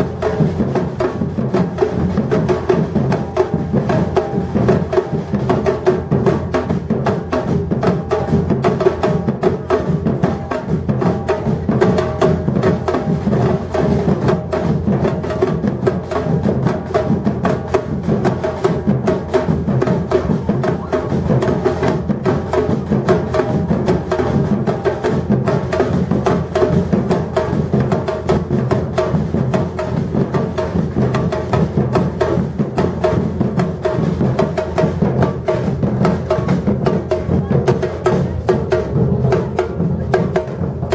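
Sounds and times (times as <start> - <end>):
percussion ensemble drumming: 0.0 - 40.9.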